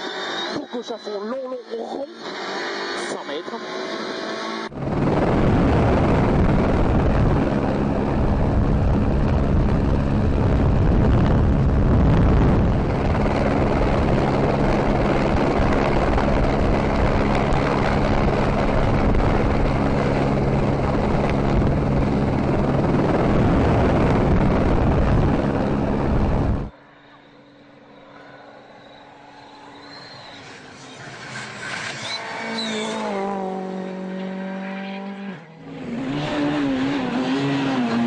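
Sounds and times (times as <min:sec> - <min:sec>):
engine drone: 0:00.0 - 0:38.0.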